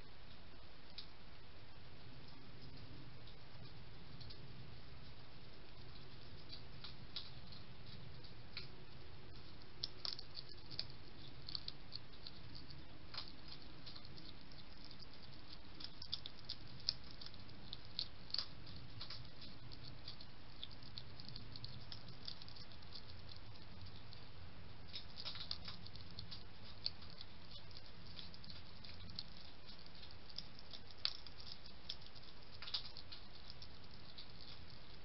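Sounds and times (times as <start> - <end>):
low hum: 0.0 - 35.0
hedgehog crunching biscuits: 2.2 - 35.0.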